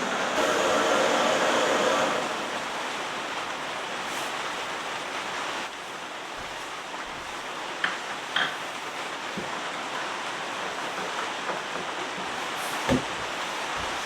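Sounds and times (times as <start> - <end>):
heavy rain: 0.0 - 14.0
rushing floodwater: 0.0 - 14.0.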